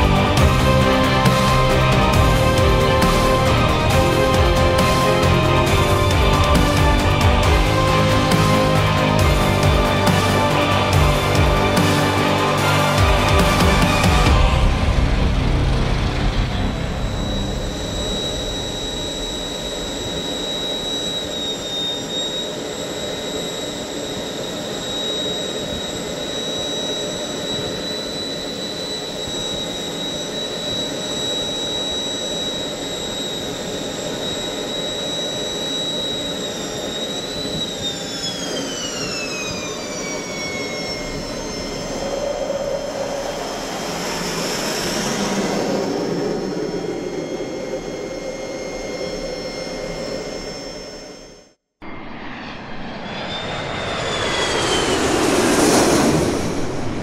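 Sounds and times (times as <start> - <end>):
jet engine roar and whine: 0.0 - 57.0.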